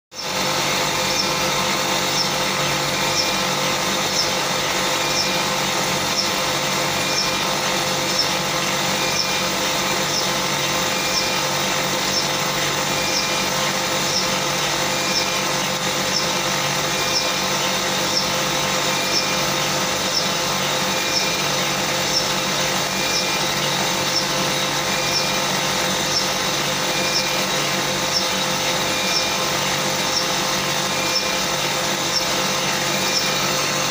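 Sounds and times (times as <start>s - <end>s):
compressor mechanical hum: 0.1s - 33.9s.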